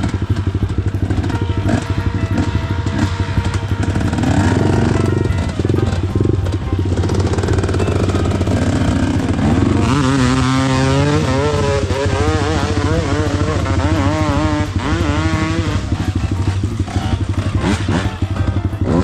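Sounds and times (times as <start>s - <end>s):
dirt bike engine revving: 0.0s - 19.0s
engine running steadily: 0.0s - 19.0s.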